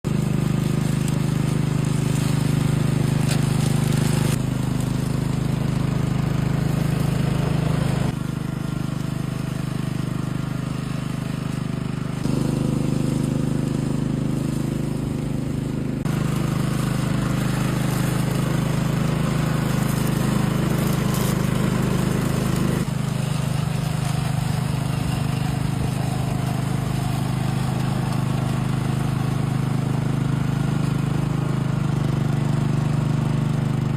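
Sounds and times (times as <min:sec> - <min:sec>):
small petrol engine running: 0:00.0 - 0:33.9.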